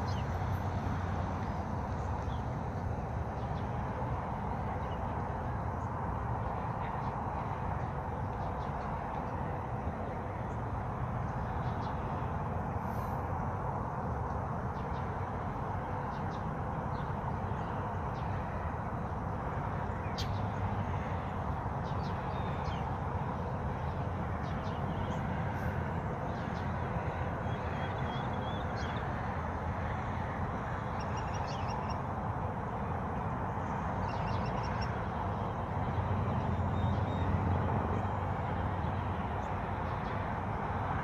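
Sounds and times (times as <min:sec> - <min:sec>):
small songbirds chirping and trilling: 0:00.0 - 0:12.3, 0:14.3 - 0:18.8, 0:19.6 - 0:32.2, 0:33.5 - 0:40.3
steady rushing background noise: 0:00.0 - 0:41.0.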